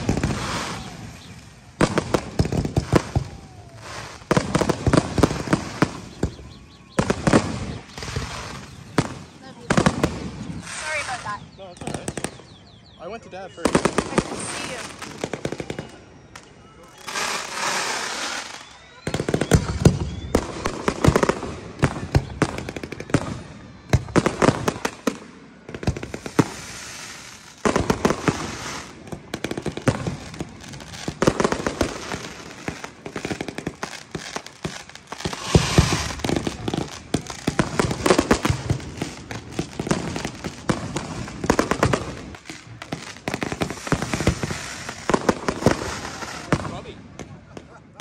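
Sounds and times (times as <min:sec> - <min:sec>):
firework bangs: 0:00.0 - 0:12.6, 0:13.4 - 0:48.0
firework crackling: 0:00.0 - 0:48.0.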